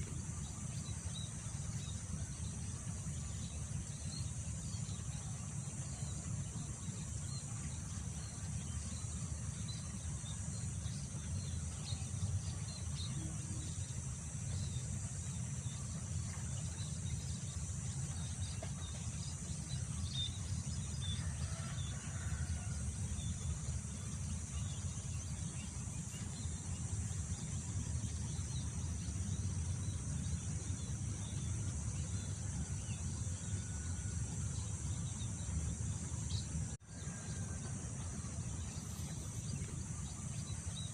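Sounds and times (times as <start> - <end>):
chirring insects: 0.0 - 40.9.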